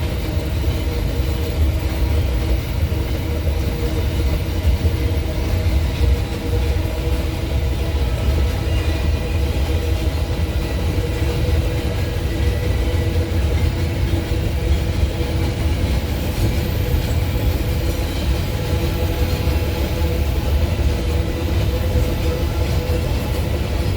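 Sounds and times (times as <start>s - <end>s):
faint steady tones: 0.0s - 23.9s
freight train wheels rumbling: 0.0s - 23.9s.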